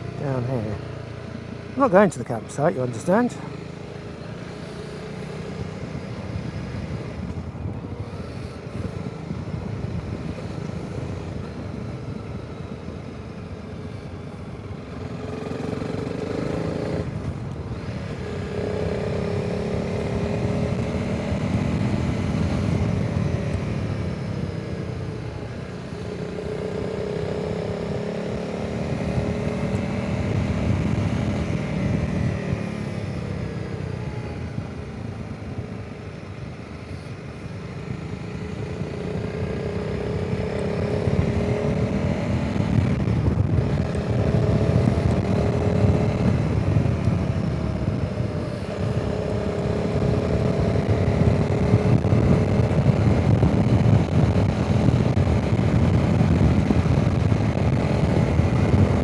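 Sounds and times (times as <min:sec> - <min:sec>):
motorcycle engine running: 0:00.0 - 0:59.0
wind rushing over microphone: 0:01.8 - 0:59.0.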